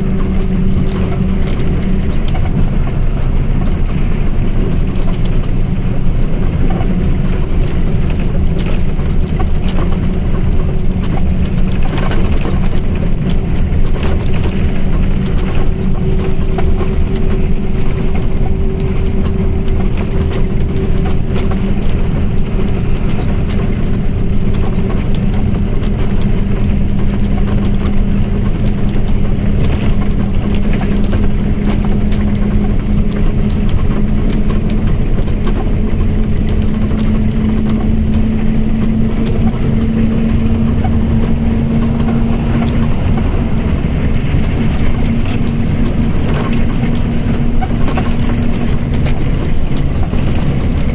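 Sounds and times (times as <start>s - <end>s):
bus drivetrain whine: 0.0s - 50.9s.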